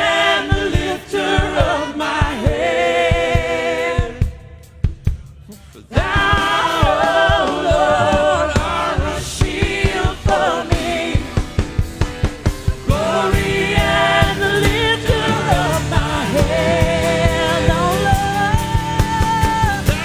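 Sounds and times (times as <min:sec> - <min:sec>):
voices singing together: 0:00.0 - 0:04.9, 0:05.7 - 0:20.0
steady drum beat: 0:00.0 - 0:20.0.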